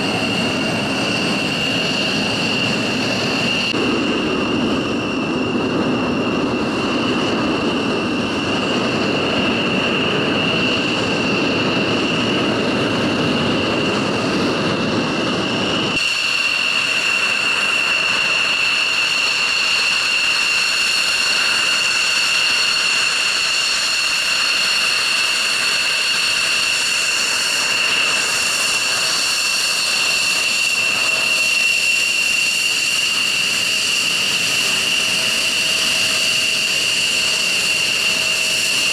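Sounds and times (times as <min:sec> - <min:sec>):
jet engine rushing rumble: 0:00.0 - 0:38.9
jet engines whining: 0:00.0 - 0:38.9.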